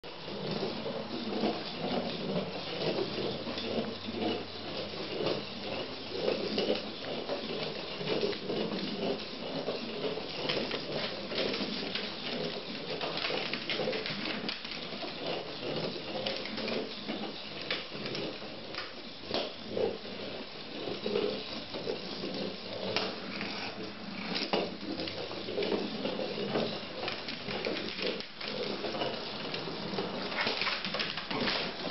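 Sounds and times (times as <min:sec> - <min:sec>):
motorized ball rolling on floor: 0:00.0 - 0:31.9.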